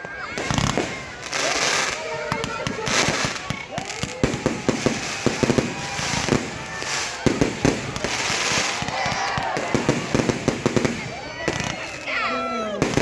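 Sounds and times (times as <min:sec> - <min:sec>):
crackling hiss of fireworks: 0:00.0 - 0:13.0
fireworks bangs: 0:00.0 - 0:13.0
people's voices: 0:00.0 - 0:13.0.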